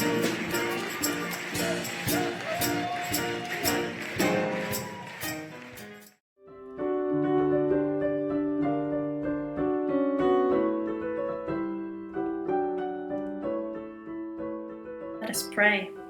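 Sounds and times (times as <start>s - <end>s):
piano music with held chords: 0.0s - 16.0s.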